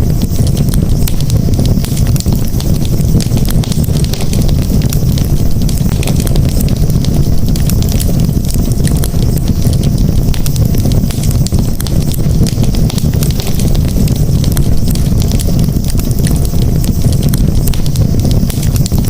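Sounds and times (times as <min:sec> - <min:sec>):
campfire rumble: 0:00.0 - 0:19.0
fire crackles and pops: 0:00.0 - 0:19.0.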